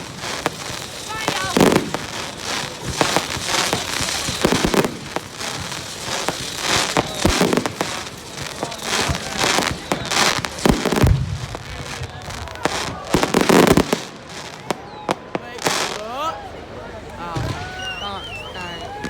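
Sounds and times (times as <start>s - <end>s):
fireworks and firecrackers banging: 0.0s - 19.0s.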